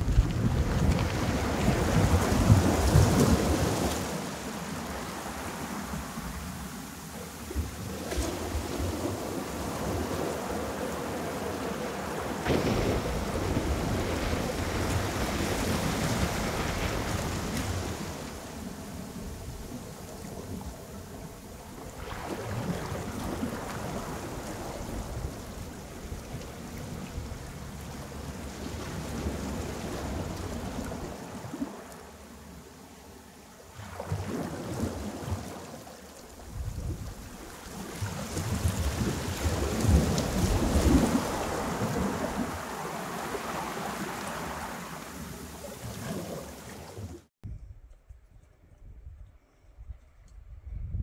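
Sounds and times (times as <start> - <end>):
wind buffeting microphone: 0.0 - 6.7, 7.3 - 31.8, 36.4 - 51.0
ocean waves breaking: 0.0 - 47.3
surf washing: 0.0 - 47.3.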